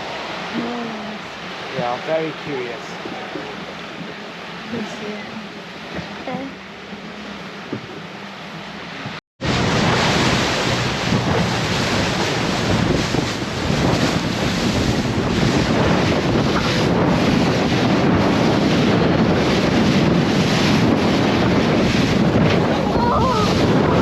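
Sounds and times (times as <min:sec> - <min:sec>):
rushing sea water: 0:00.0 - 0:24.0
wind buffeting microphone: 0:00.0 - 0:24.0.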